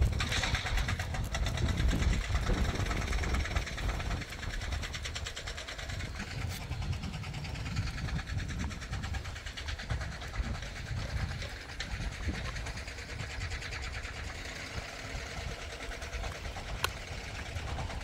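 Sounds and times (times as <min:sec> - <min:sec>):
fast faint ticking: 0:00.0 - 0:18.0
wind rumbling on microphone: 0:00.0 - 0:18.0.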